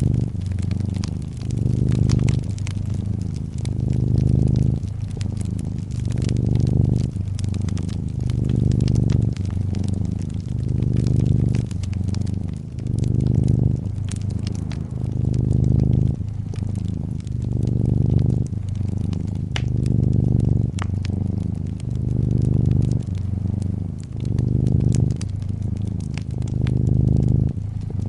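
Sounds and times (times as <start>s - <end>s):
cat purring: 0.0s - 28.0s
fire crackling: 0.0s - 28.0s.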